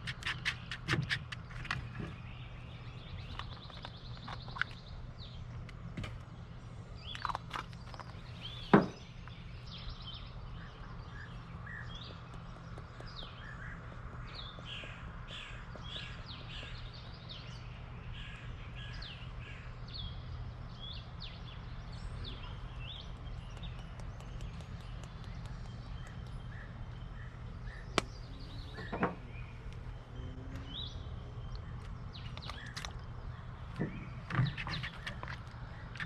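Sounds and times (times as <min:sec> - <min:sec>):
birds chirping and calling: 0:00.0 - 0:36.0
steady low hum: 0:00.0 - 0:36.0.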